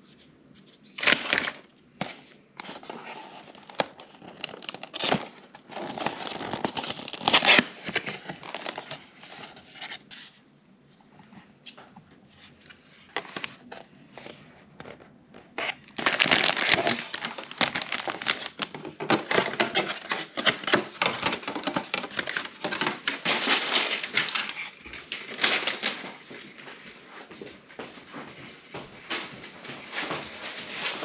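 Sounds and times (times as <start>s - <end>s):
plastic wrapping crinkling: 0.6s - 10.1s, 13.1s - 27.0s, 29.0s - 31.0s.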